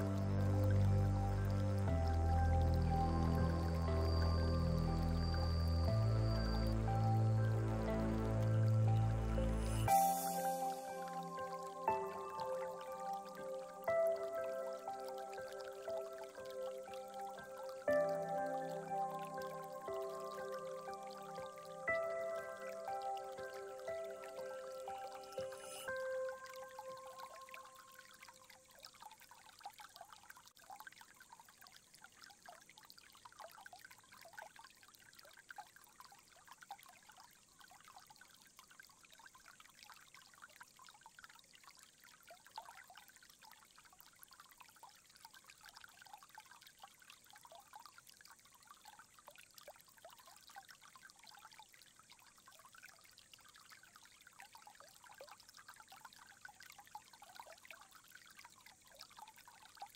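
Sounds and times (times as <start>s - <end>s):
water trickling into stone basin: 0.0s - 59.9s.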